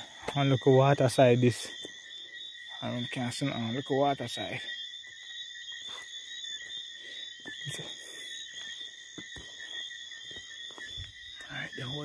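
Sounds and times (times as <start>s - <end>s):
insects or frogs calling: 0.0s - 12.0s.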